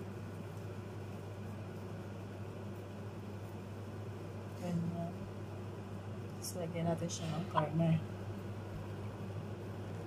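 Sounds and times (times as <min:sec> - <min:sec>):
machine hum and hiss: 0:00.0 - 0:10.0.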